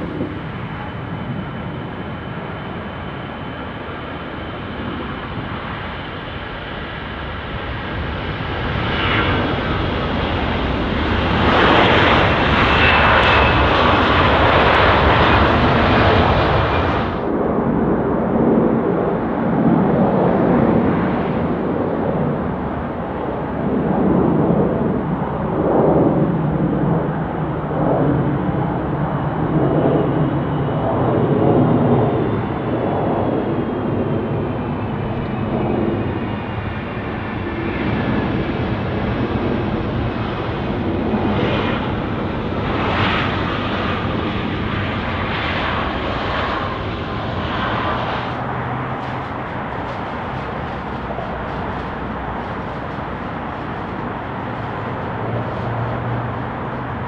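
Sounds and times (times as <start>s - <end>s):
jet engine whine falling in pitch: 0.0s - 57.0s
jet engines roaring: 0.0s - 57.0s.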